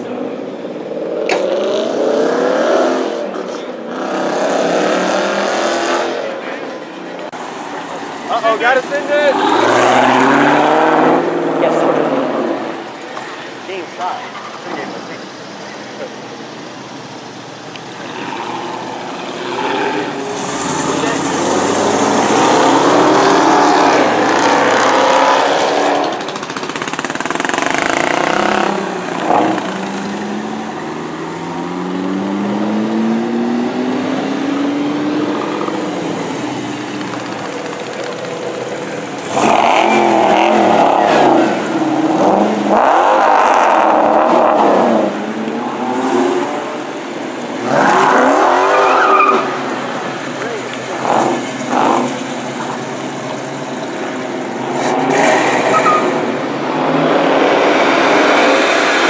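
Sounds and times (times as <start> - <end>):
engines revving and accelerating: 0.0 - 16.2, 17.9 - 59.0.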